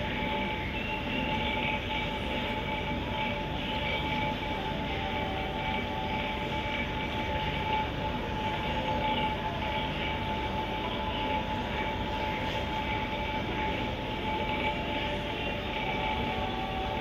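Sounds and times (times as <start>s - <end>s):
equipment humming: 0.0s - 17.0s
faint whining tones: 0.0s - 17.0s.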